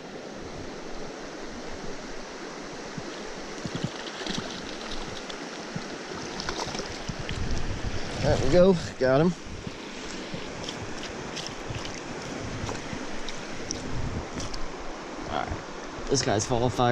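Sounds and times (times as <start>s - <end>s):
stream water rushing over rocks: 0.0s - 16.9s.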